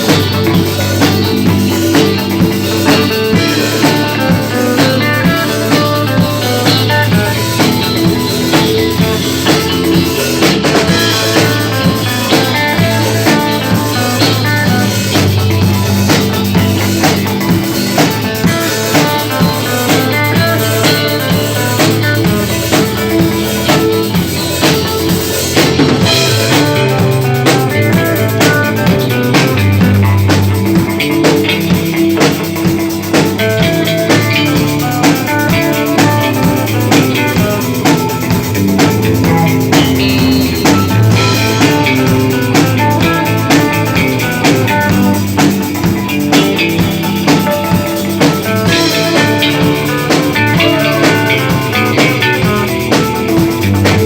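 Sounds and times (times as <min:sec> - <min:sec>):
drum kit beat: 0:00.0 - 0:54.0
electric guitar and bass: 0:00.0 - 0:54.0.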